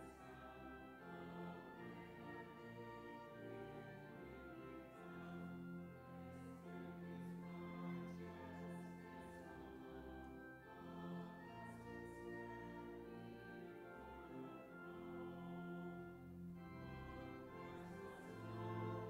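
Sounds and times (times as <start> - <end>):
voices singing church music: 0.0 - 19.0.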